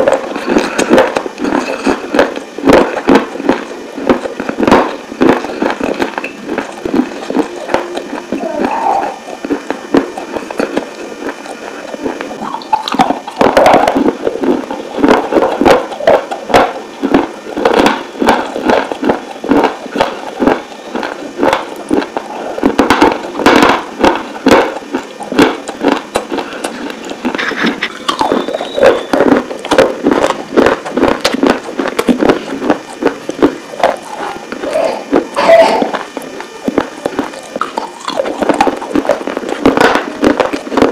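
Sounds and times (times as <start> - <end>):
crunching and chewing clay: 0.0 - 40.9.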